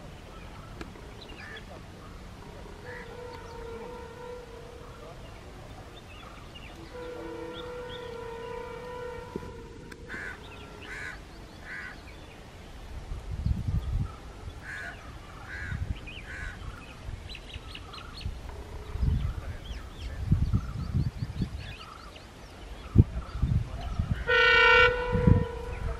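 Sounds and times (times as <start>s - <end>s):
bird calls: 0.0s - 12.8s, 13.8s - 25.9s.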